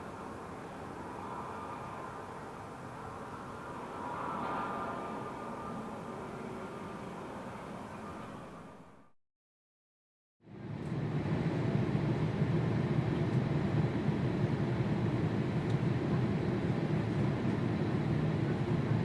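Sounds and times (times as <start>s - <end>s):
jet engine rumble: 0.0s - 9.2s, 10.5s - 19.0s.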